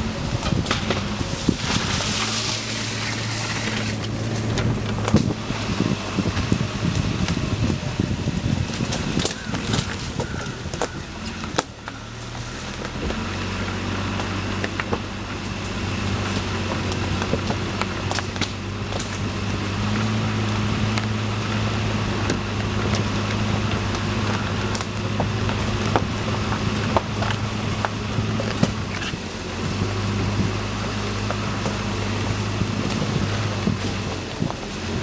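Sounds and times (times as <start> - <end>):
car engine low hum: 0.0 - 35.0
tyres rolling over sticks and stones: 0.0 - 35.0.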